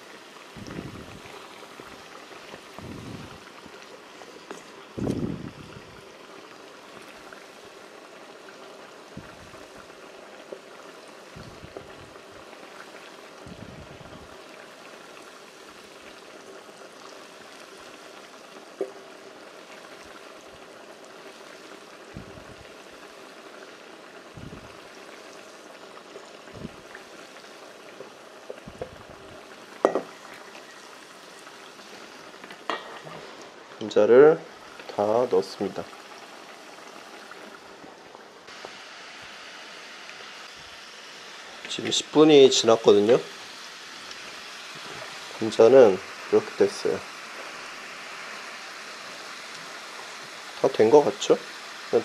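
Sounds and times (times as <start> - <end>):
oil sizzling in frying pan: 0.0 - 52.0.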